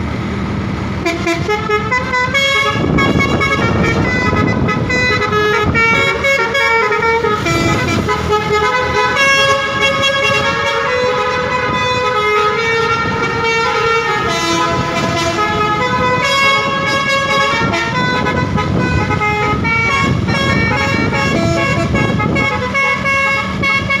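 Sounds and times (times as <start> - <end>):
road noise: 0.0 - 24.0
truck engine: 0.0 - 24.0
multi-tone horn melody: 1.0 - 24.0.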